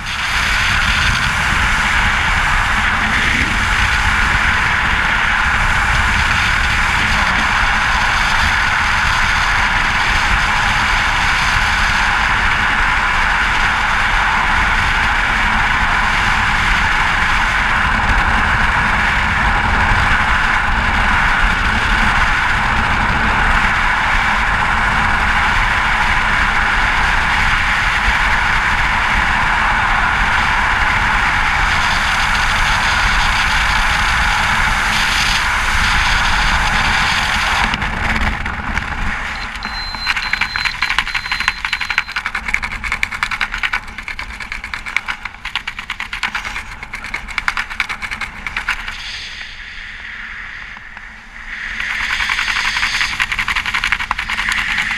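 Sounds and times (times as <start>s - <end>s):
freefall wind buffeting: 0.0s - 39.7s, 42.3s - 54.9s
low rumble: 0.0s - 54.9s.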